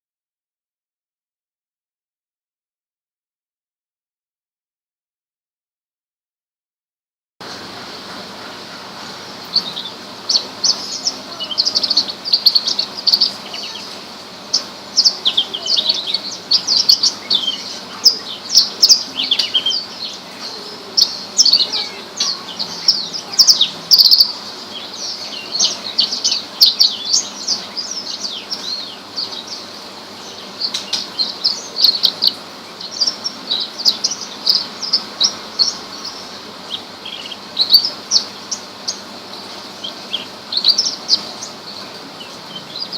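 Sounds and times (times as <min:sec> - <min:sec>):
bird singing chirps and trills: 0:08.4 - 0:42.9.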